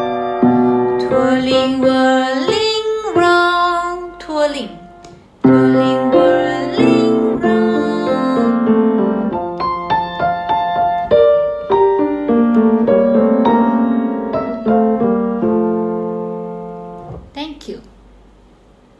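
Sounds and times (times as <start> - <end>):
grand piano playing: 0.0 - 17.2.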